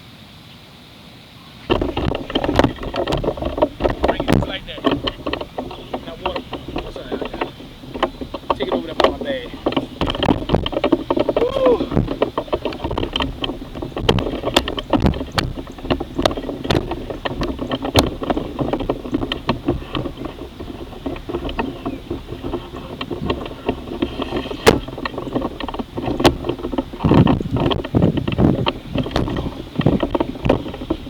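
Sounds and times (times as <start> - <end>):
wind on microphone: 1.6 - 31.0.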